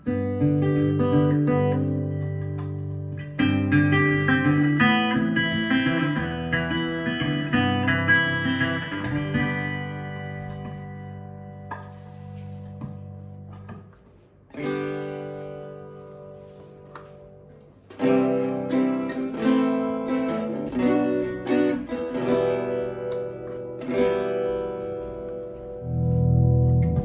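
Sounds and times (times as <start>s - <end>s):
electric guitar playing: 0.0s - 27.0s.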